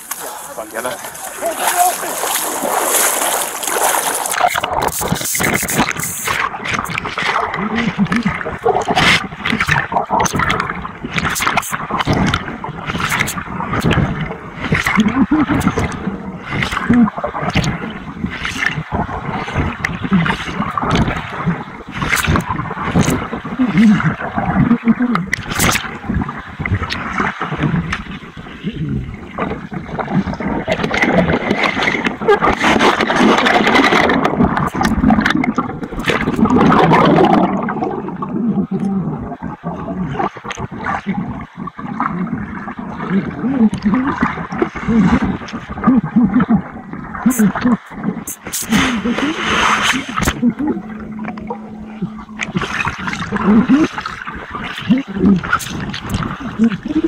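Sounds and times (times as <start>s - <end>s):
water splashing and gurgling: 0.0s - 57.0s.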